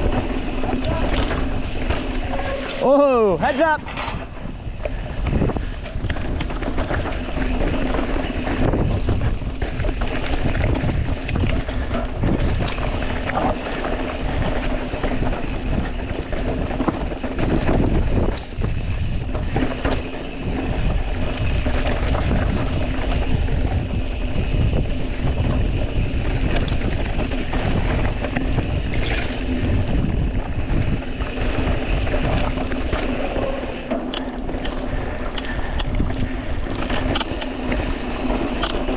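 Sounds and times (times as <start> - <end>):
bike rattling: 0.0 - 38.9
bike tyres rolling on dirt: 0.0 - 38.9
wind buffeting microphone: 0.0 - 38.9.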